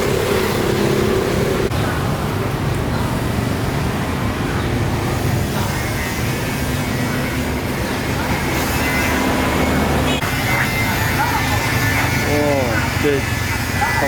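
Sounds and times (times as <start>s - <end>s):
motor traffic rumble: 0.0s - 14.0s.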